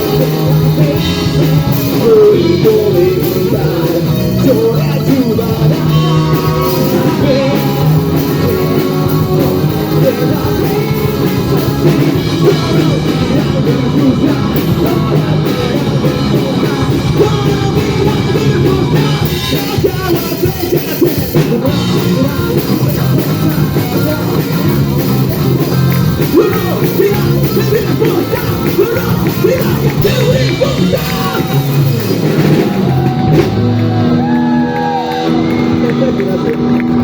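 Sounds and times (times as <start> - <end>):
rock band playing: 0.0 - 37.0.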